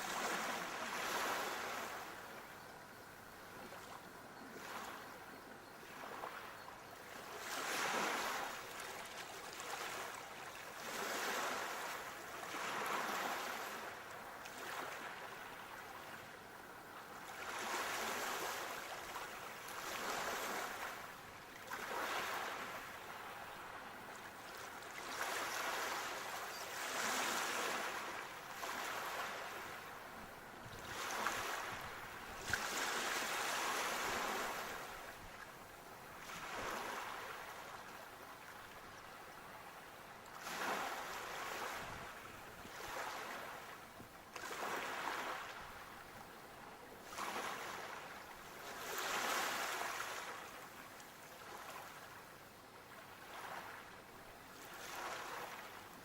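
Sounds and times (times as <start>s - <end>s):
sea waves breaking on shore: 0.0s - 2.5s, 3.6s - 5.2s, 5.8s - 46.3s, 47.0s - 56.0s.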